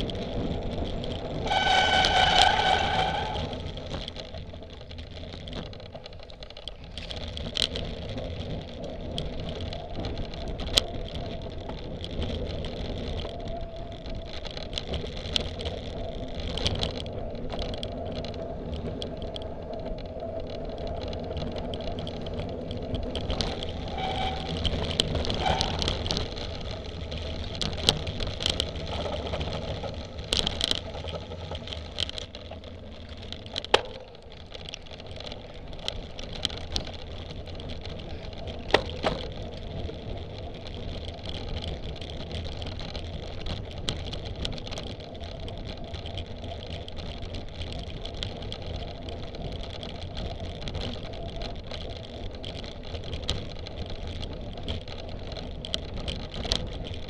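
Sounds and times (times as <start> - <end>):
bike rattling and knocking: 0.0 - 57.0
tyres rumbling on dirt: 0.0 - 57.0.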